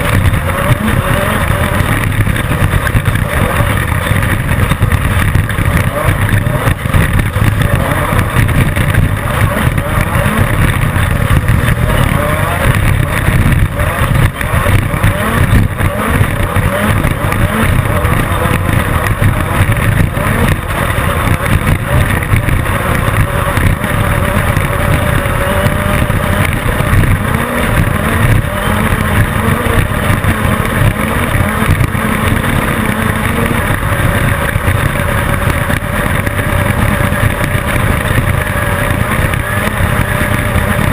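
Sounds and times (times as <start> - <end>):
knocks and jolts over rough ground: 0.0 - 40.9
race car engine running hard: 0.0 - 40.9.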